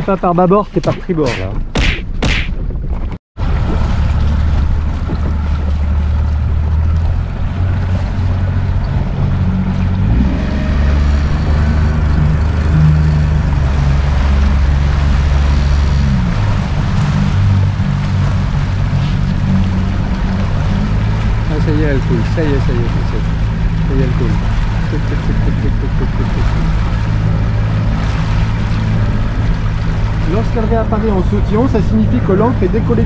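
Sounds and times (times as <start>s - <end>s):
water noise: 0.0s - 33.0s
wind noise: 0.8s - 33.0s
outboard motor running: 3.4s - 33.0s.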